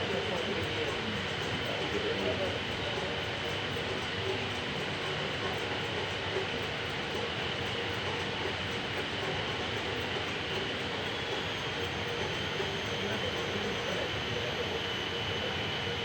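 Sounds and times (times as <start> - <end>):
constant high whine: 0.0 - 16.0
tram rolling noise: 0.0 - 16.0.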